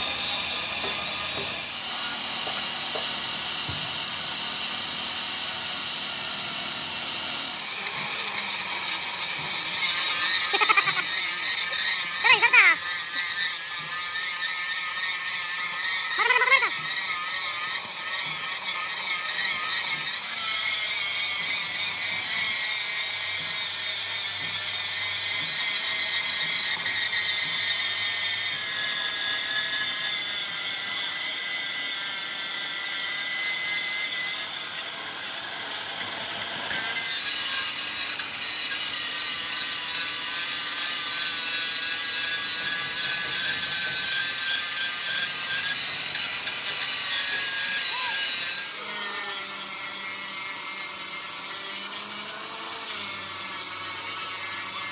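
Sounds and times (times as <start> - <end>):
power tool whining: 0.0 - 54.9.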